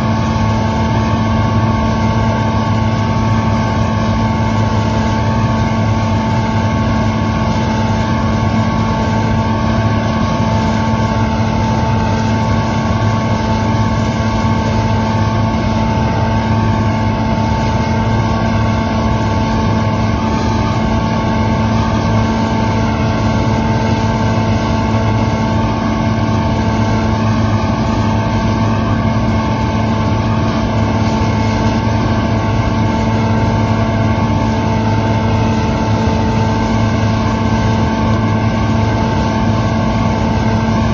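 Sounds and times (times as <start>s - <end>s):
combine harvester humming: 0.0s - 40.9s.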